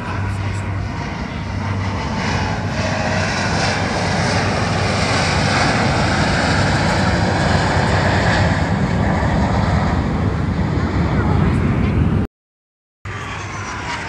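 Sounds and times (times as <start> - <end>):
jet roaring past: 0.0 - 12.3, 13.1 - 14.0.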